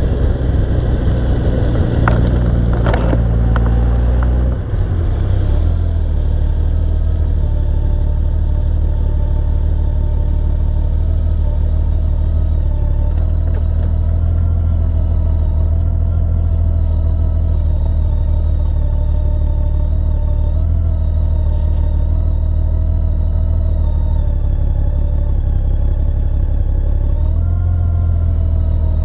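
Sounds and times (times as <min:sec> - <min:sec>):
motorcycle engine and road rumble: 0:00.0 - 0:29.0.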